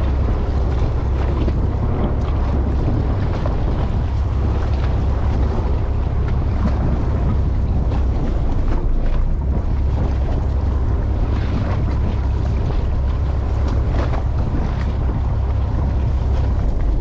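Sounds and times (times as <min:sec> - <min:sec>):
boat engine low rumble: 0:00.0 - 0:17.0
wind buffeting microphone: 0:00.0 - 0:17.0.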